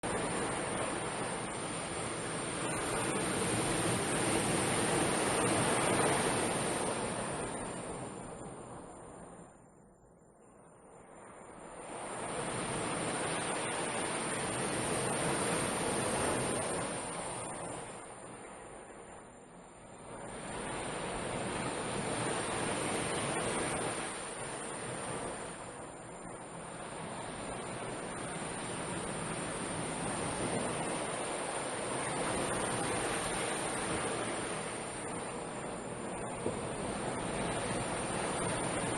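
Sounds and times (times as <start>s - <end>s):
surf washing on beach: 0.0s - 9.5s, 11.0s - 38.9s
steady high-pitched hiss: 0.0s - 38.9s.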